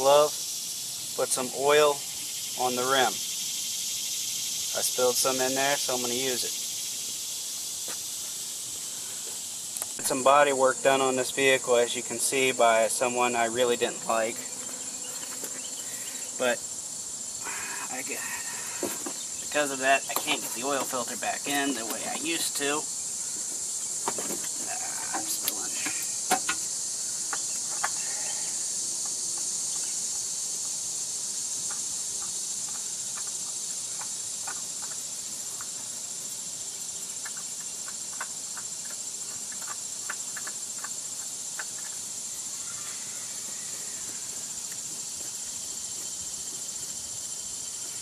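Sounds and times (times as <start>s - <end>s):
steady high-pitched hiss: 0.0s - 48.0s.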